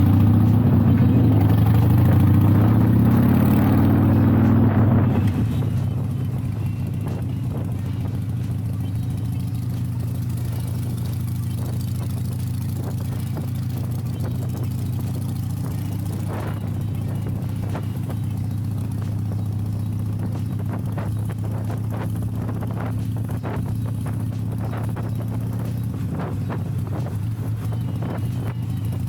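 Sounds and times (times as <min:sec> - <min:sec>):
motorcycle engine running steadily: 0:00.0 - 0:29.0.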